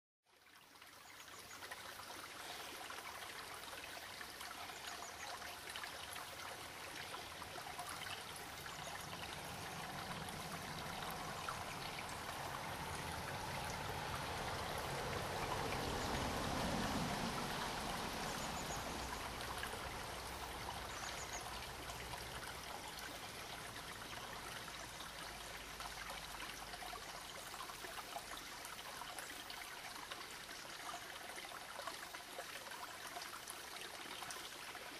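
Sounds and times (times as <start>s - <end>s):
creek trickling over stones: 0.2s - 34.9s.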